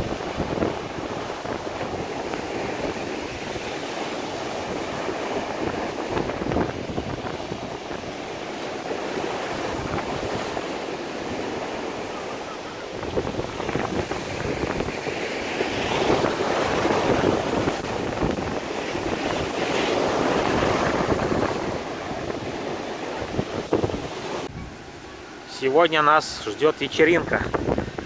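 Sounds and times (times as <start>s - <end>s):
wind buffeting microphone: 0.0s - 24.9s, 27.2s - 28.0s
storm surf breaking: 0.0s - 28.0s.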